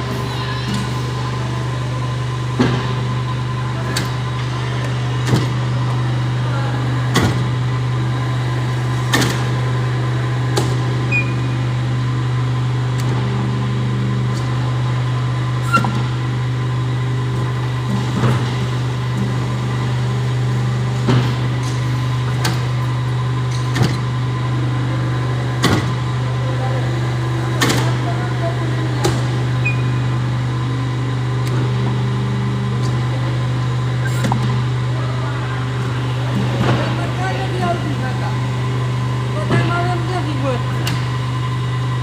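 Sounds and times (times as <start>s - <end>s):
hydraulic press motor humming: 0.0s - 42.0s.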